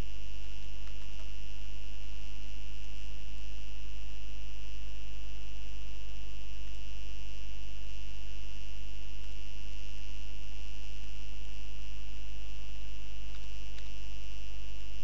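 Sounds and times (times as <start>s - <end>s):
electrical mains hum: 0.0s - 15.0s
high-pitched whine: 0.0s - 15.0s.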